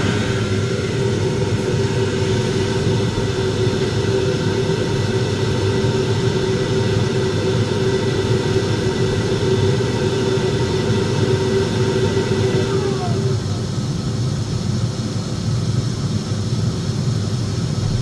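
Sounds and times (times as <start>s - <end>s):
gas boiler running: 0.0s - 18.0s.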